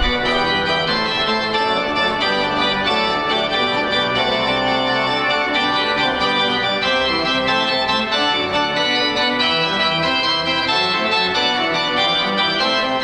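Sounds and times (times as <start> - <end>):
church pipe organ playing: 0.0 - 13.0.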